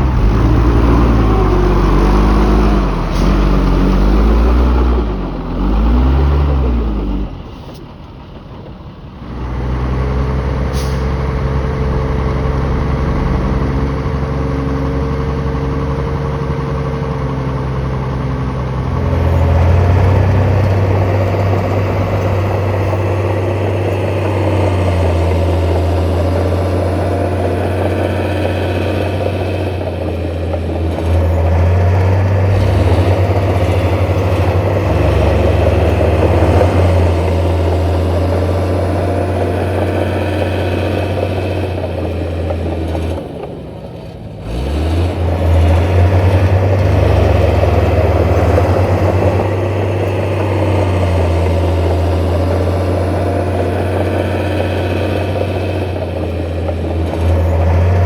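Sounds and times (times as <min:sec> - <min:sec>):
deeper diesel engine running: 0:00.0 - 0:58.0
diesel engine revving: 0:00.0 - 0:58.0.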